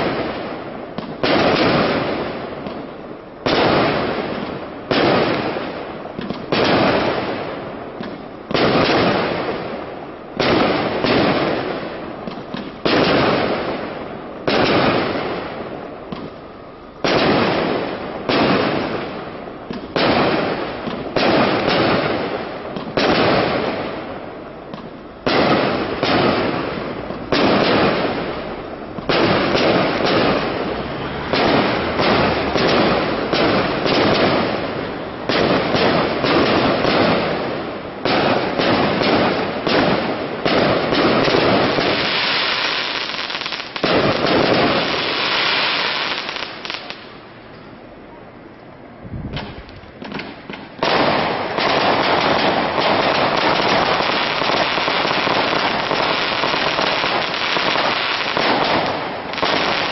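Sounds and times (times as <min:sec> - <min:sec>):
fireworks banging: 0:00.0 - 0:47.8, 0:49.1 - 0:59.9.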